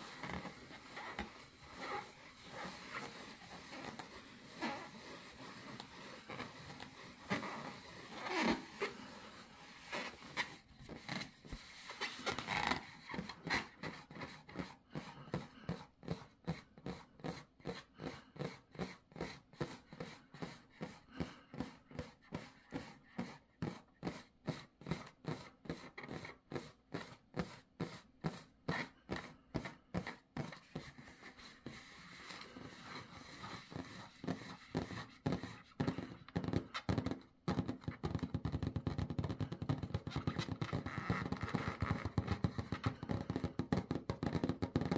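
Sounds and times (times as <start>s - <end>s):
claws scratching a balloon: 0.0s - 44.9s.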